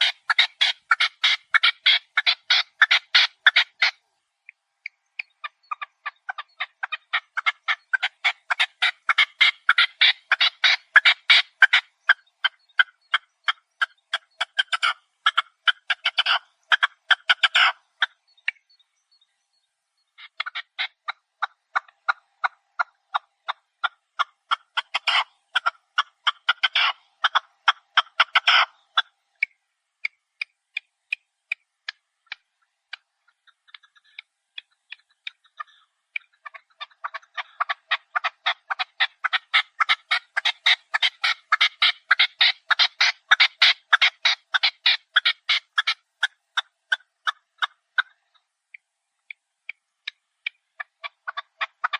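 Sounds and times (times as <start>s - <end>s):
partridges chattering calls: 0.0s - 4.1s, 4.8s - 51.9s.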